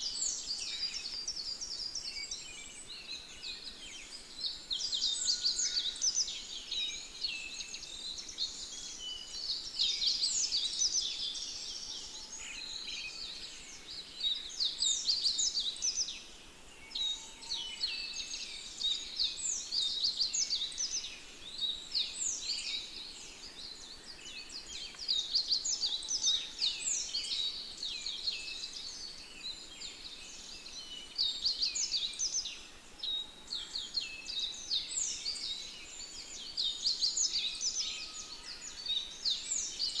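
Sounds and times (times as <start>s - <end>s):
many birds chirping: 0.0s - 40.0s.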